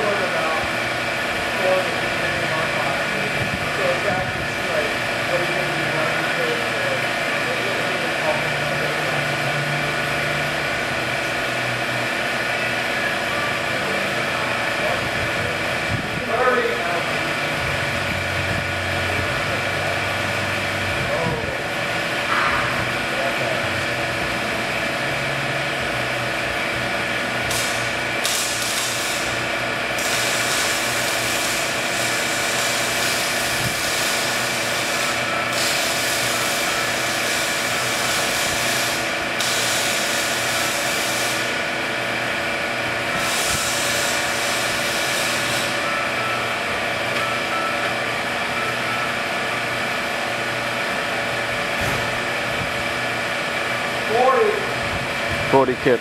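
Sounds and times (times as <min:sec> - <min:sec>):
hydraulic system humming: 0:00.0 - 0:56.0.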